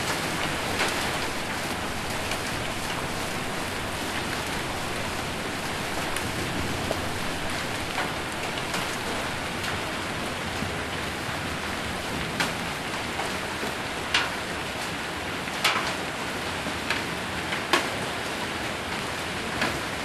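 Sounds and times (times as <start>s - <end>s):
heavy rain and hail on a roof: 0.0s - 20.0s.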